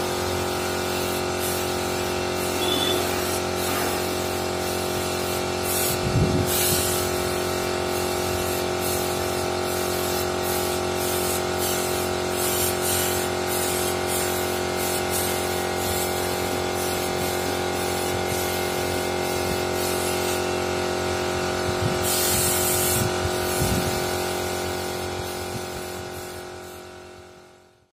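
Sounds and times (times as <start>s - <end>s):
paint spray gun hissing: 0.0s - 27.6s.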